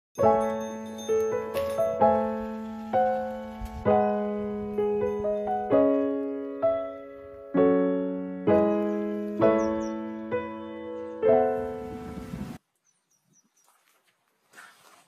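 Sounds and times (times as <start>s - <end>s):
soft piano chords: 0.2s - 12.6s.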